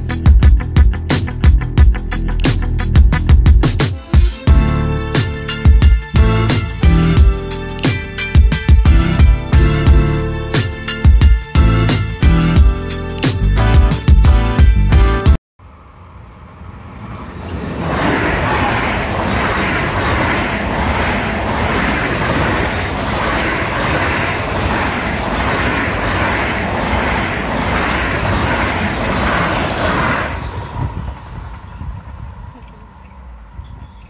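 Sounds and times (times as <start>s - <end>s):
train passing at speed: 3.9s - 14.0s, 15.6s - 34.0s.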